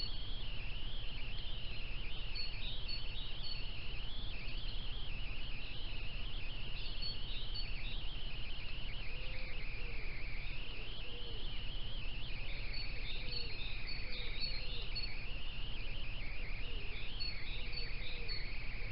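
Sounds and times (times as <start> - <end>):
distant birdsong chorus: 0.0 - 18.9.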